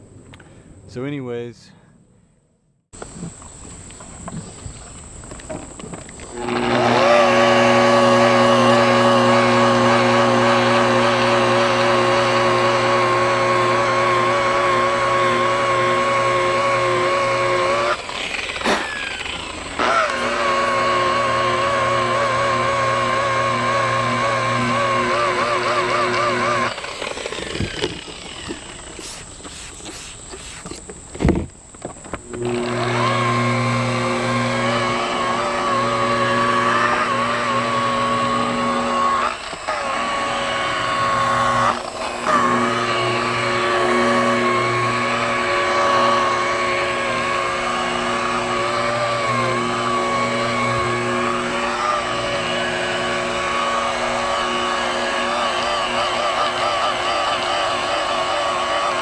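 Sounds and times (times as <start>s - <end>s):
orbital buffer motor whining: 3.0s - 59.0s.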